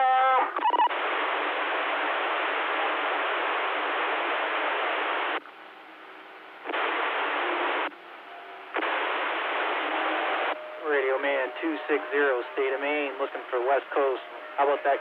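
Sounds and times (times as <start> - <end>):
radio static hiss: 0.0 - 8.0, 8.7 - 15.0
faint steady tones: 0.6 - 15.0.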